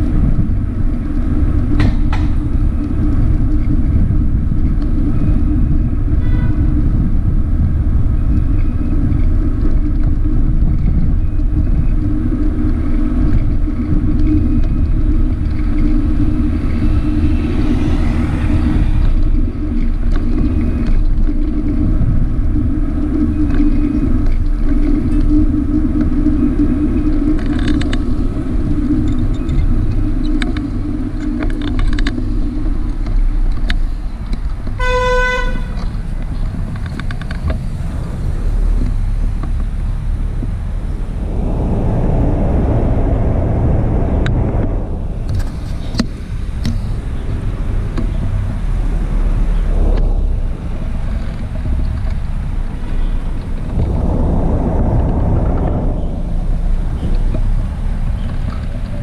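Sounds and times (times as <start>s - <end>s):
road and wind noise: 0.0s - 59.0s.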